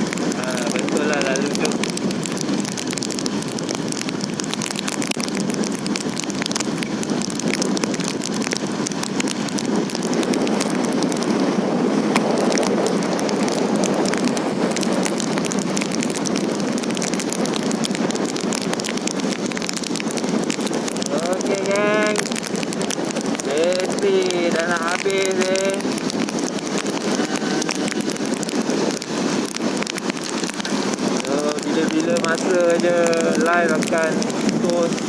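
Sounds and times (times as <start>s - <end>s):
steady rain pattering: 0.0s - 35.0s.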